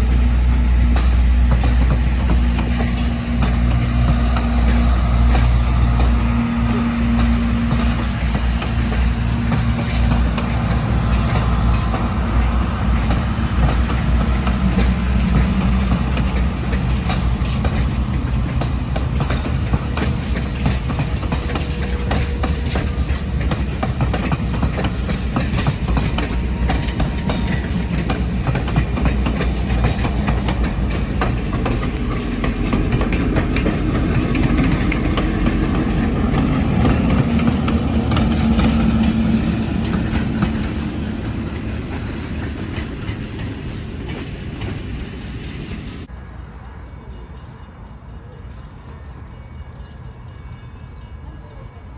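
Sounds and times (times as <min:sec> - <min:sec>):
train wheels clicking over rail joints: 0:00.0 - 0:46.1
diesel locomotive engine running: 0:00.0 - 0:51.9.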